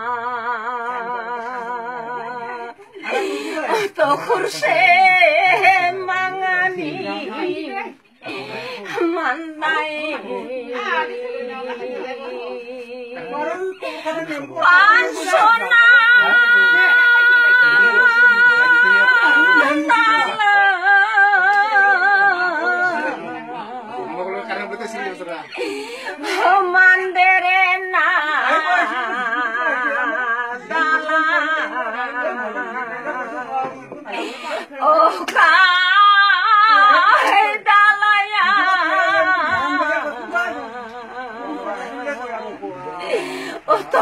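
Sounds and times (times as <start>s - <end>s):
elderly woman singing: 0.0s - 13.9s, 14.6s - 23.8s, 26.1s - 42.4s.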